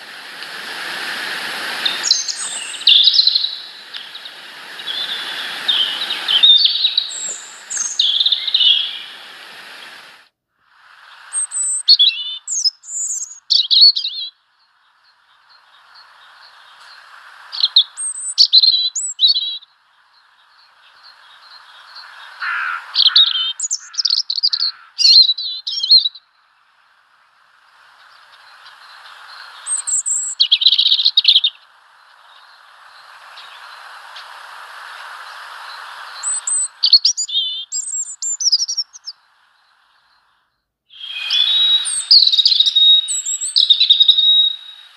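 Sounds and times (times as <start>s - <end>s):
faint steady hiss: 0.0s - 44.9s
small songbirds chirping: 1.6s - 10.1s, 11.1s - 44.9s.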